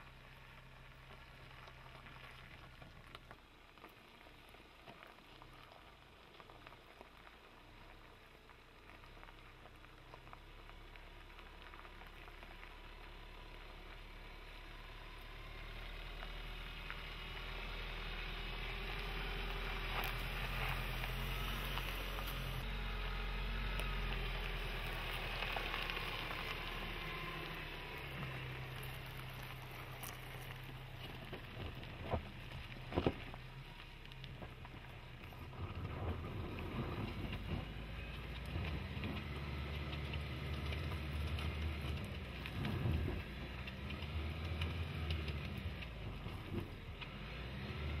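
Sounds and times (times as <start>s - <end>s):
tyres crunching over gravel: 0.0s - 48.0s
diesel engine running at low revs: 5.5s - 48.0s.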